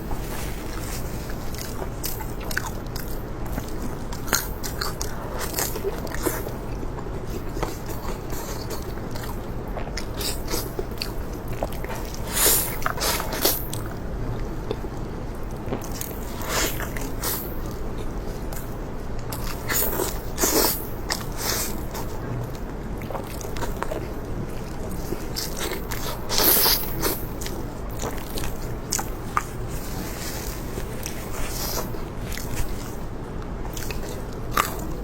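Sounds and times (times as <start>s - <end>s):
person chewing crunchy food: 0.0s - 35.0s.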